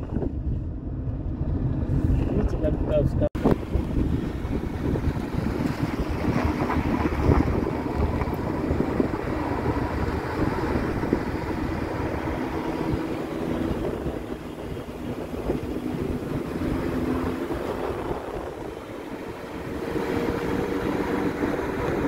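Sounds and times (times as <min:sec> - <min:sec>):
car engine and road rumble: 0:00.0 - 0:22.0
low hum: 0:00.0 - 0:22.0.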